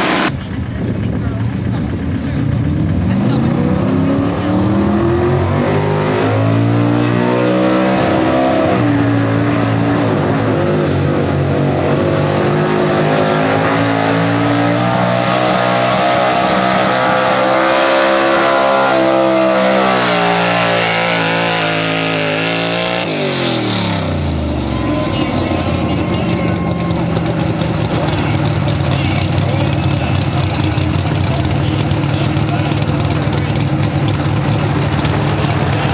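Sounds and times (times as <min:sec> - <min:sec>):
truck engine revving at full throttle: 0:00.0 - 0:35.9.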